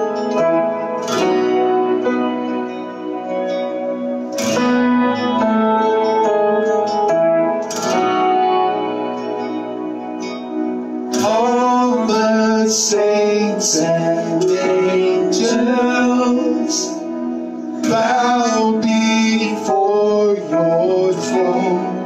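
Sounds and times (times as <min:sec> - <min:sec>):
guitar accompaniment: 0:00.0 - 0:22.0.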